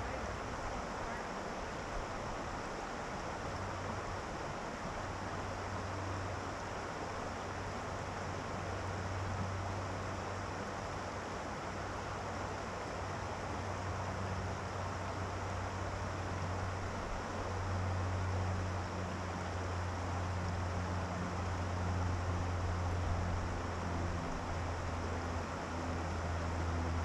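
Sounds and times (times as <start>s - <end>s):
low steady hum: 0.0s - 27.0s
river water over rocks: 0.0s - 27.0s.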